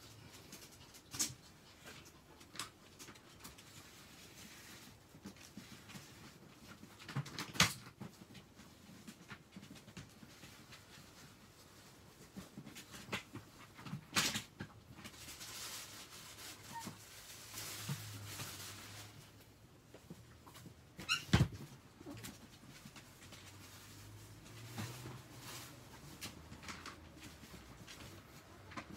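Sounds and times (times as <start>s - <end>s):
rustling: 0.0s - 28.9s.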